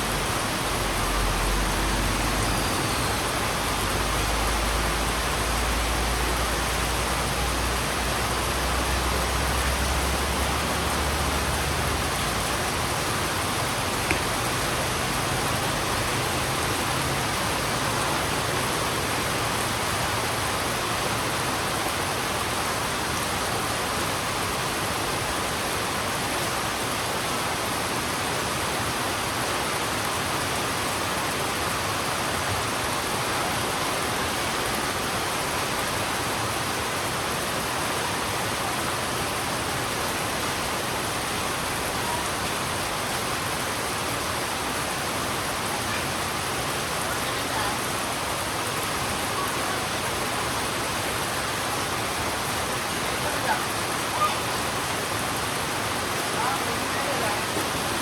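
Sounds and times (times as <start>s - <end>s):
heavy rain on hard surface: 0.0s - 58.0s.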